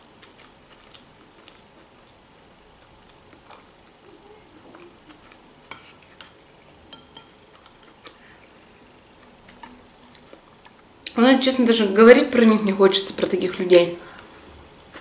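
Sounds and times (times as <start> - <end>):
soft chewing: 0.0 - 11.2, 13.4 - 15.0.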